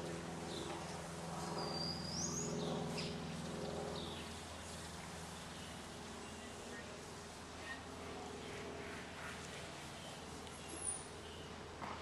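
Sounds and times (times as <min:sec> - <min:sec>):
low buzzing hum: 0:00.0 - 0:11.9.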